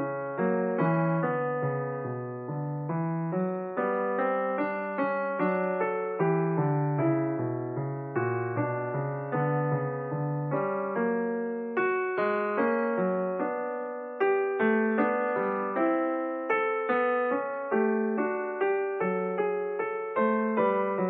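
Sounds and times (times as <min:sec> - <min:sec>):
slow piano melody: 0:00.0 - 0:21.0.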